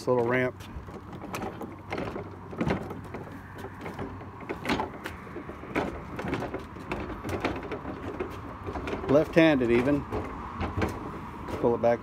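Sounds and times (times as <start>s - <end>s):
cart wheels rumbling on wooden deck: 0.0s - 12.0s
wheels knocking over board gaps: 0.2s - 12.0s.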